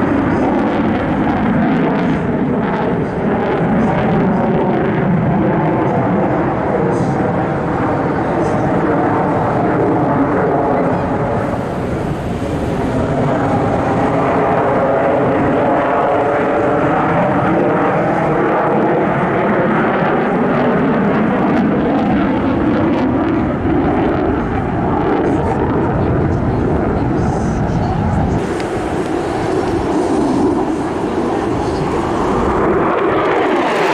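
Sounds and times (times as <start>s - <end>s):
airplane flying over: 0.0s - 33.9s.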